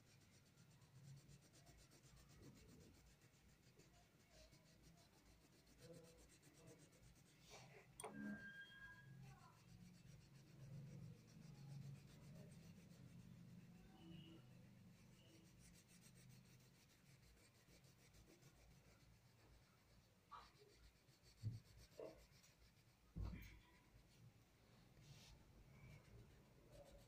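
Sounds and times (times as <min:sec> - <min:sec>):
crayon scratching on paper: 0:00.0 - 0:27.0.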